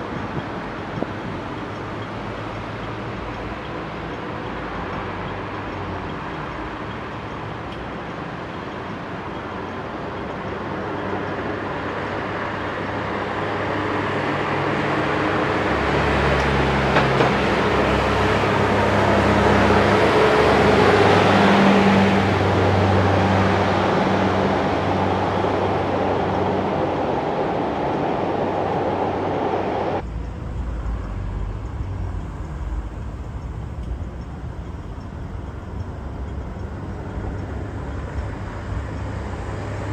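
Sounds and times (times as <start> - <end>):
metro train rumbling: 0.0 - 39.9.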